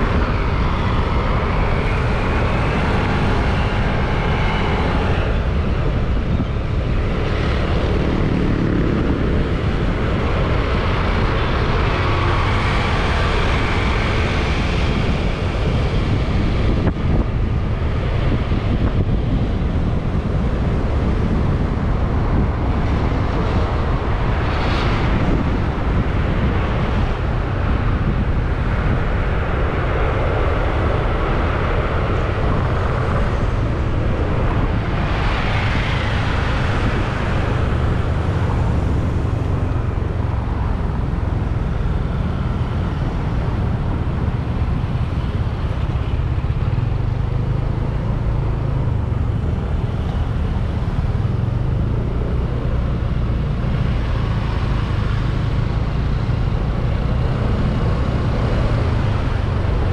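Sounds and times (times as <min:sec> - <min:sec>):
road noise: 0:00.0 - 0:59.9
wind rush on microphone: 0:00.0 - 0:59.9.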